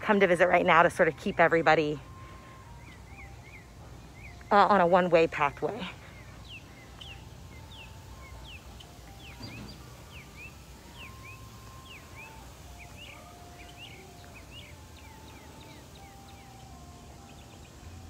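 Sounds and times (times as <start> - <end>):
low steady background rumble: 0.0 - 18.0
small birds chirping: 0.0 - 18.0.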